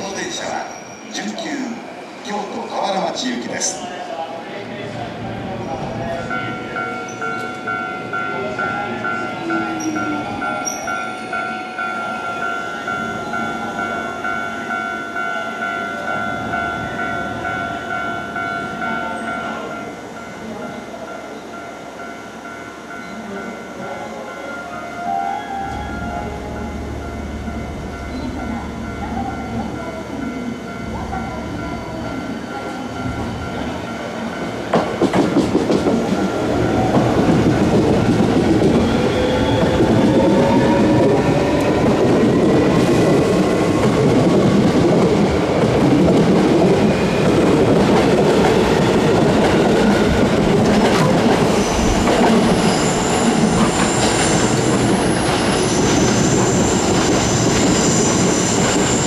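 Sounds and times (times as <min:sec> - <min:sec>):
electric train running hum: 0:04.5 - 0:59.0.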